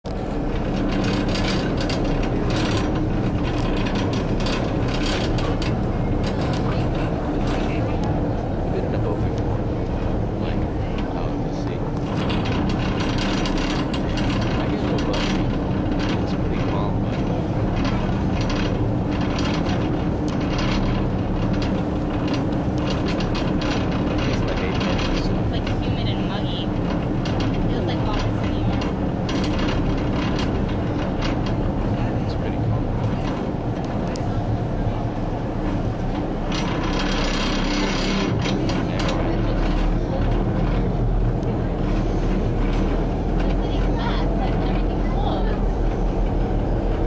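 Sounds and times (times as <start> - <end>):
boat engine humming: 0.0 - 47.0
fast rattling clatter: 0.1 - 47.0.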